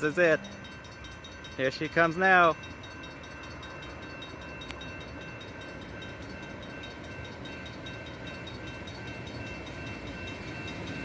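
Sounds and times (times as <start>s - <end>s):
railroad crossing bell ringing: 0.0s - 11.0s
train rumble on rails: 0.0s - 11.0s.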